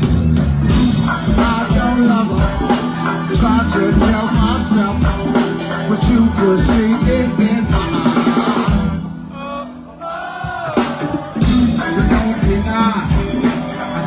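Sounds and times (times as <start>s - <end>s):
drum and percussion beat: 0.0s - 9.0s, 10.2s - 14.0s
live go-go band playing: 0.0s - 14.0s
person singing: 1.0s - 14.0s.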